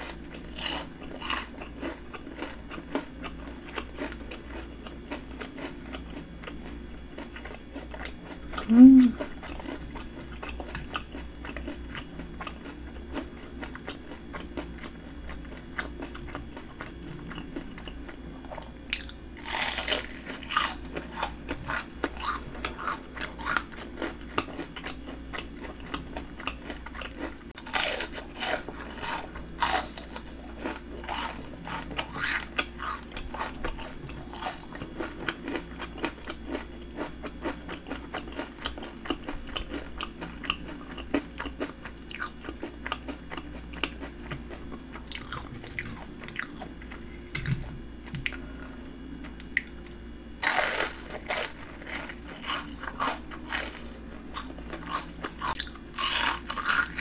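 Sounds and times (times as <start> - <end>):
crunchy chewing of fried shrimp: 0.0 - 57.0.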